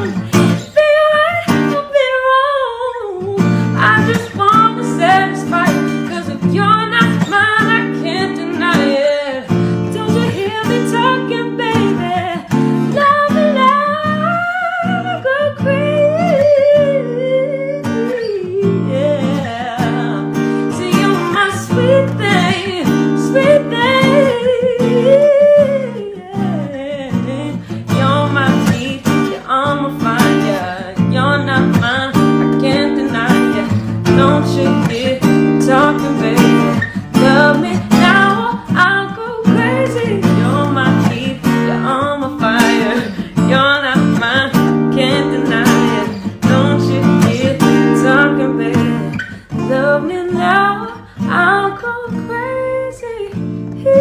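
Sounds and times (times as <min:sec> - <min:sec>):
person singing: 0:00.0 - 0:54.0
strummed acoustic guitar: 0:00.0 - 0:54.0.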